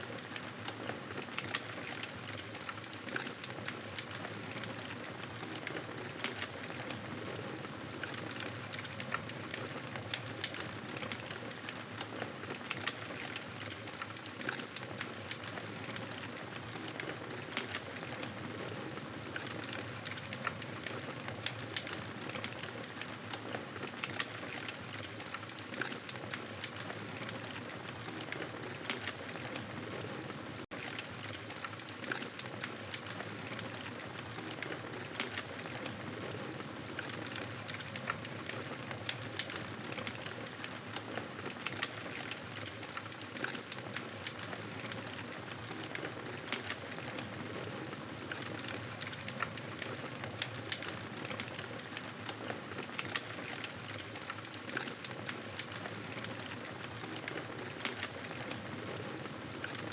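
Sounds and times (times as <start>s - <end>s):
campfire crackling: 0.1s - 59.9s.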